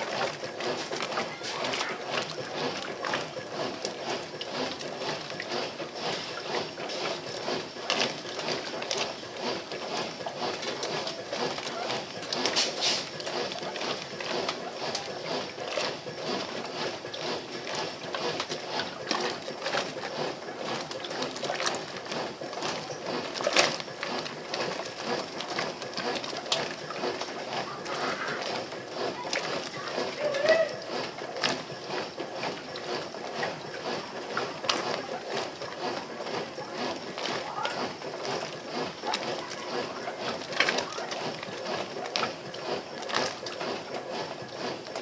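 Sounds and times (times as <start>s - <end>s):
washing machine agitator churning: 0.0s - 45.0s
water sloshing and splashing: 0.0s - 45.0s.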